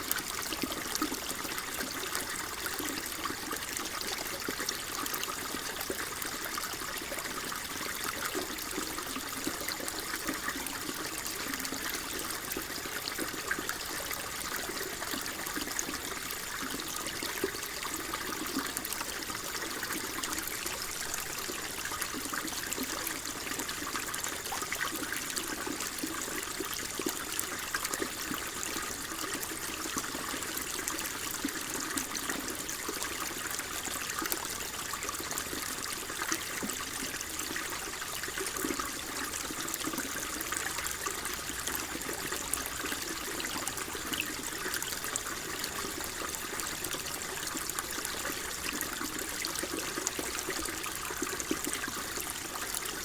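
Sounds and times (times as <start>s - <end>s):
water trickling and bubbling: 0.0s - 53.0s.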